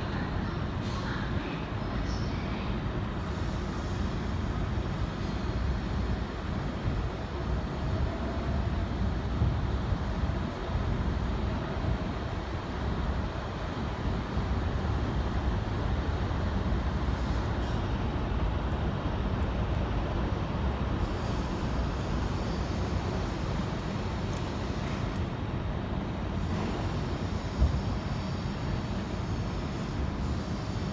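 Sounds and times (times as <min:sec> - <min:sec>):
distant train running: 0:00.0 - 0:30.9
low city rumble: 0:00.0 - 0:30.9.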